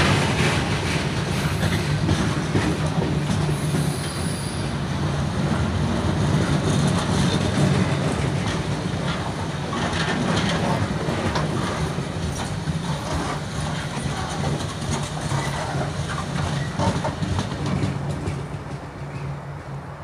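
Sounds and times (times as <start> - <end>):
freight train wheels clicking: 0.0 - 20.0
train low rumble: 0.0 - 20.0.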